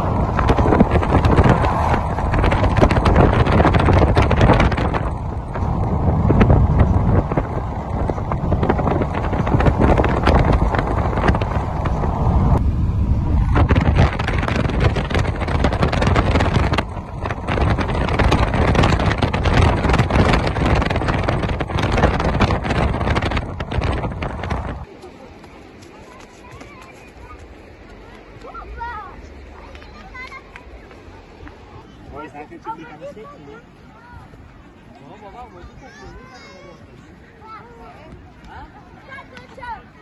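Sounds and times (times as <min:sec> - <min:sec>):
car road and wind noise: 0:00.0 - 0:40.0.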